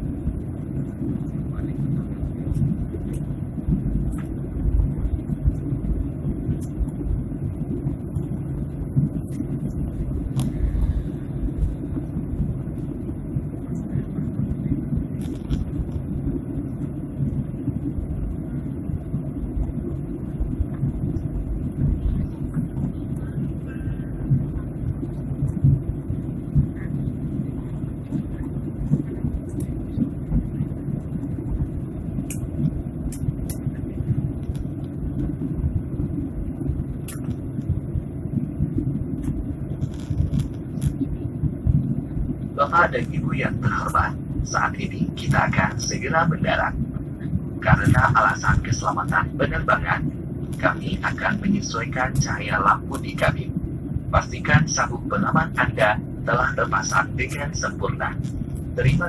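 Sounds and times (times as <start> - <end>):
airliner engine and airflow rumble: 0.0 - 59.0.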